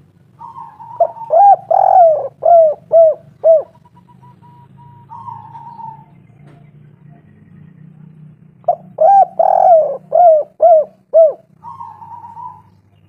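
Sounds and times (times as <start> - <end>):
dove cooing: 0.0 - 6.2, 8.6 - 12.9.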